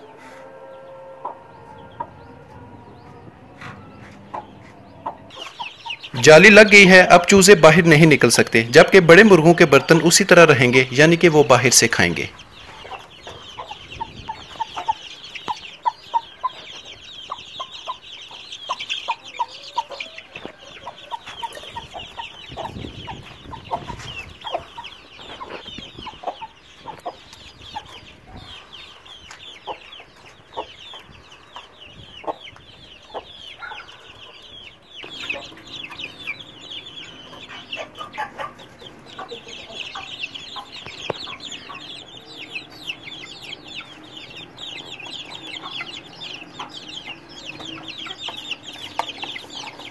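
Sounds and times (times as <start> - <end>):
chicks peeping: 0.0 - 49.9
young chickens clucking: 0.0 - 49.9.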